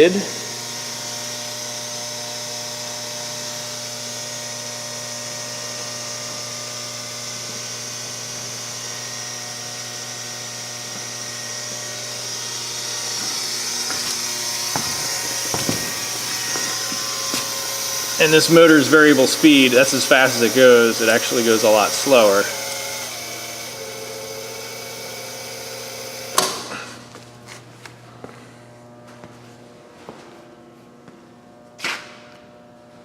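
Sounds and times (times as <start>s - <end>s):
electric motor whine: 0.2s - 26.7s.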